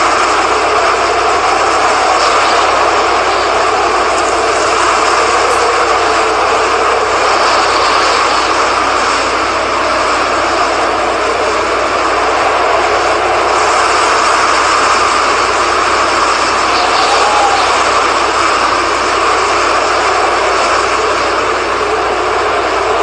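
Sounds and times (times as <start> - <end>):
loud rushing storm wind: 0.0 - 23.0.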